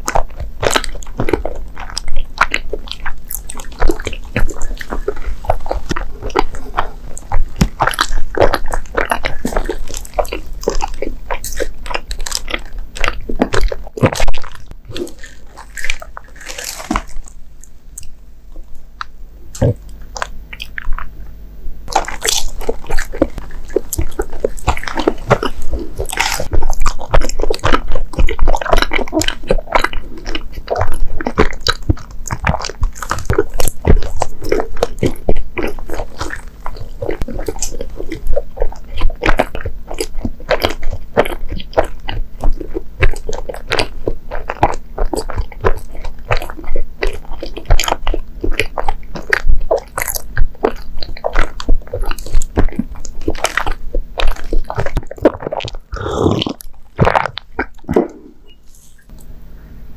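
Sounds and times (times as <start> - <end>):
chewing with wet mouth clicks: 0.0 - 59.4.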